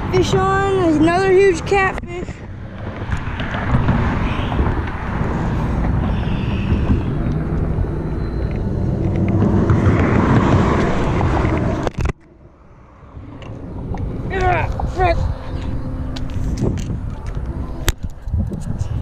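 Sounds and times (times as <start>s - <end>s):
road traffic rumbling: 0.0s - 19.0s
vehicle passing: 0.0s - 19.0s
wind on microphone: 0.0s - 19.0s.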